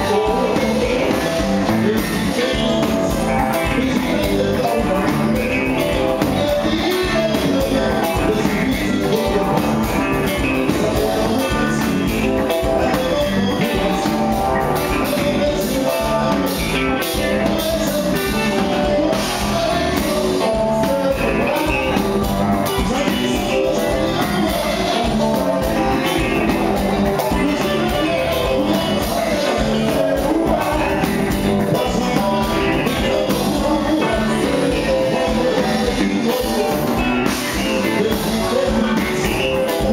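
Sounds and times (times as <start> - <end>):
live band playing: 0.0 - 39.9
man singing: 0.0 - 39.9.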